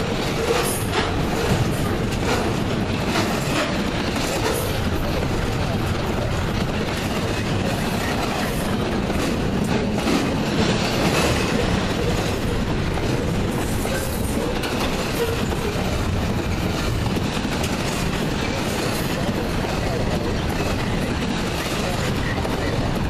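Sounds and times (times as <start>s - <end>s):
steel wheels running on rails: 0.0s - 23.0s.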